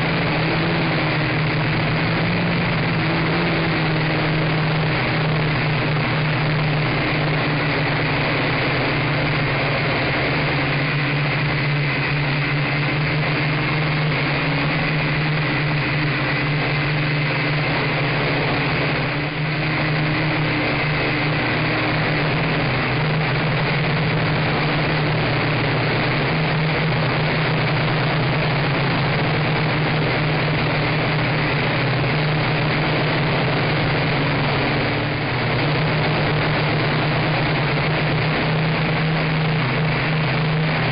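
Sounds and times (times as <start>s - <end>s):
propeller wash rushing: 0.0s - 40.9s.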